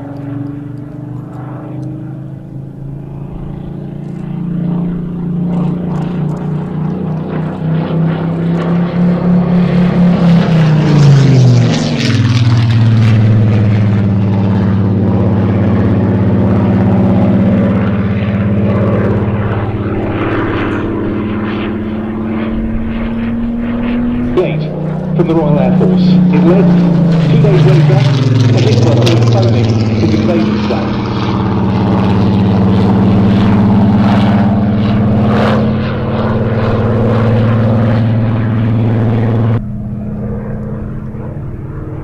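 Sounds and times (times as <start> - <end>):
propeller plane flying overhead: 0.0 - 42.0.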